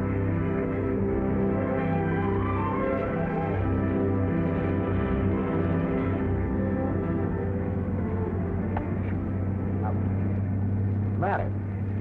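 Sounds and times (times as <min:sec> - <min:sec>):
film score sustained chords: 0:00.0 - 0:12.0.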